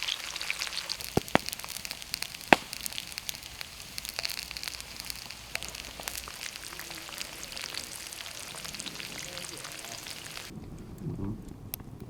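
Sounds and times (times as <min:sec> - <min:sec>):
sausages and bacon sizzling: 0:00.0 - 0:10.5
fat spitting crackles: 0:00.0 - 0:10.6.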